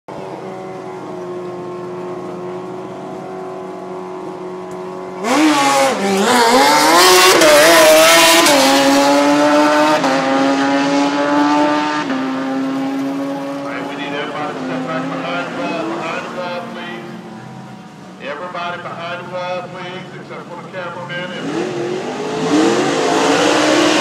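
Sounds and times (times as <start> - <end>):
car engine idling and revving: 0.1 - 24.0.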